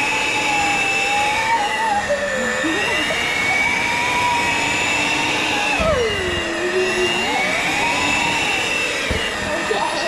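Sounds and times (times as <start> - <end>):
electric hand mixer whining: 0.0 - 10.0.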